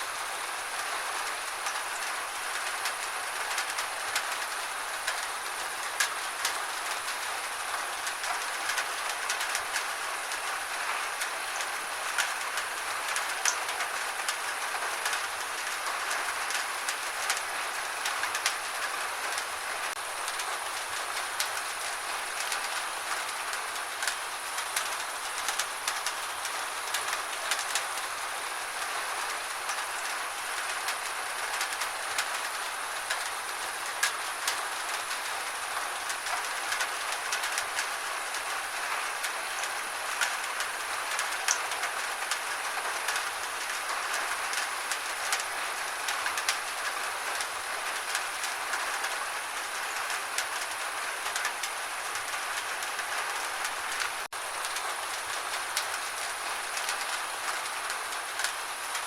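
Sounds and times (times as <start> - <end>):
rain hissing: 0.0 - 59.0
raindrops ticking on a surface: 0.0 - 59.0.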